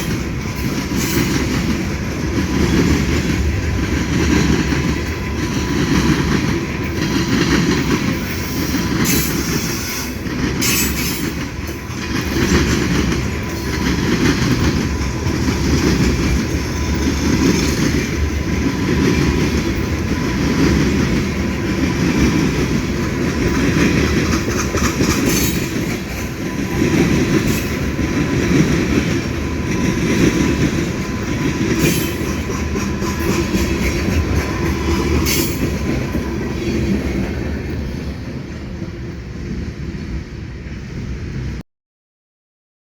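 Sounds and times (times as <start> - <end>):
train rumble and wheel clatter: 0.0 - 41.6.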